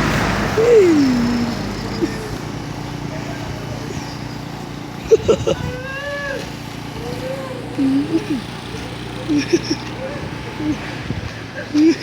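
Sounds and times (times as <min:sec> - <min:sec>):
short loud engine bursts: 0:00.0 - 0:11.8
scooter engine idling: 0:00.0 - 0:12.0.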